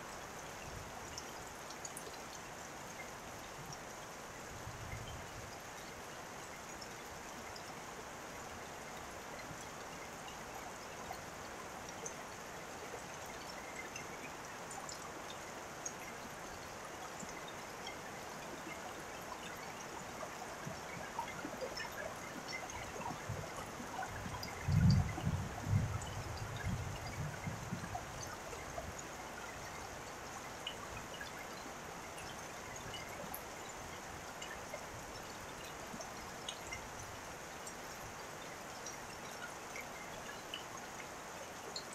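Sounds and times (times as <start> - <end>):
steady rain: 0.0 - 41.9
trickling water drips: 0.0 - 41.9.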